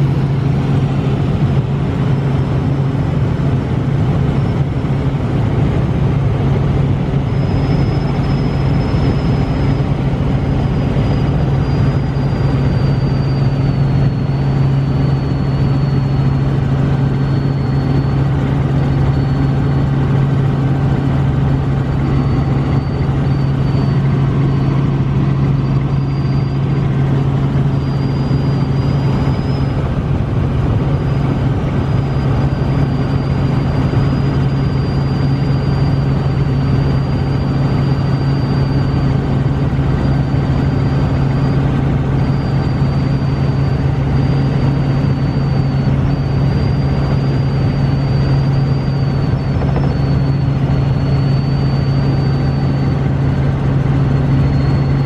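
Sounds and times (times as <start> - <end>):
helicopter engine and rotors drone: 0.0 - 55.0
high-pitched whine: 0.0 - 55.0.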